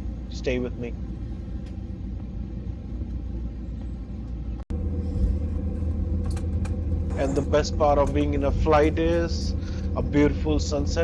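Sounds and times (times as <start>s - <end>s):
airliner cabin rumble: 0.0s - 11.0s
faint steady hum: 0.0s - 11.0s.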